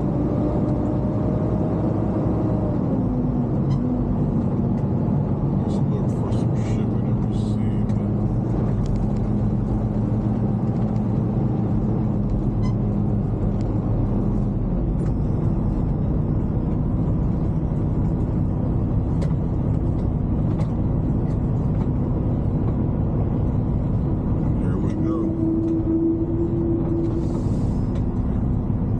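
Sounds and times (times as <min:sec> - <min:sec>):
diesel truck engine drone: 0:00.0 - 0:28.9.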